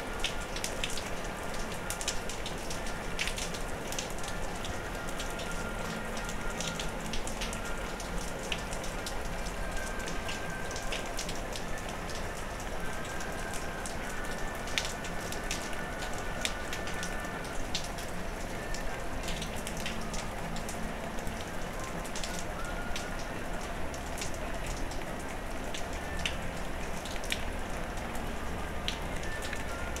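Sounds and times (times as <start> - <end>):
raindrops ticking close by: 0.0 - 30.0
steady rain falling: 0.0 - 30.0.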